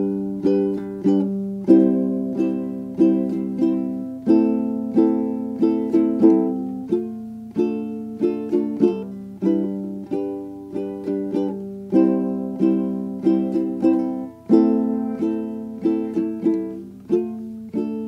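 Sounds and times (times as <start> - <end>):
plucked-string chords: 0.0 - 18.0.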